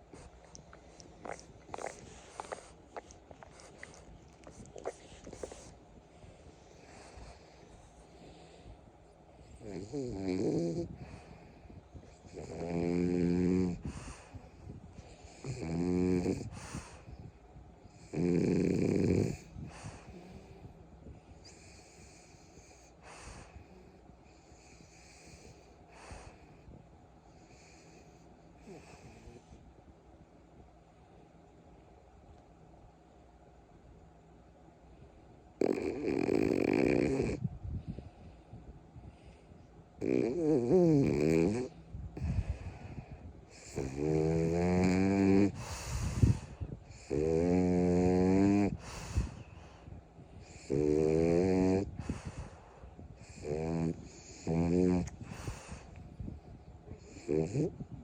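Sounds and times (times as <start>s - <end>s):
dog snoring: 0.0s - 29.6s, 35.6s - 37.5s, 40.0s - 56.3s, 56.9s - 58.0s
dog breathing noisily: 0.0s - 29.8s, 35.1s - 58.0s.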